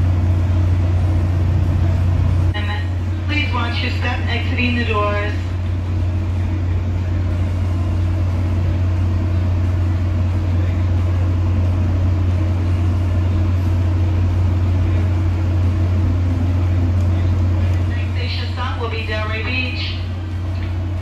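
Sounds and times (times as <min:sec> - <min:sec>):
train interior hum and rumble: 0:00.0 - 0:21.0.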